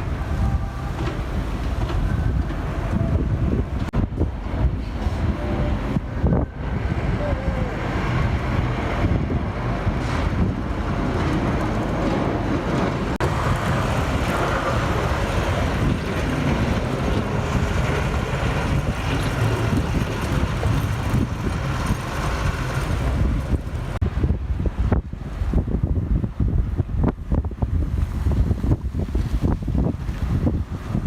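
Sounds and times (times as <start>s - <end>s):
street traffic rumble: 0.0s - 31.0s
wind noise: 0.0s - 31.0s.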